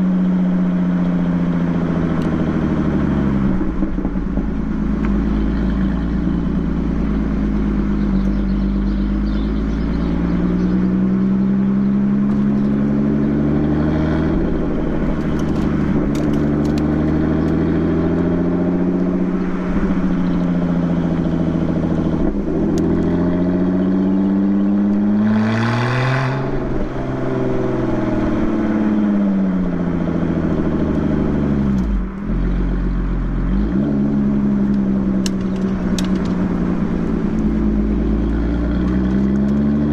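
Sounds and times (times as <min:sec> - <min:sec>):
car engine revving: 0:00.0 - 0:39.9
faint engine crackles: 0:02.0 - 0:13.7, 0:14.3 - 0:25.1, 0:30.2 - 0:39.9.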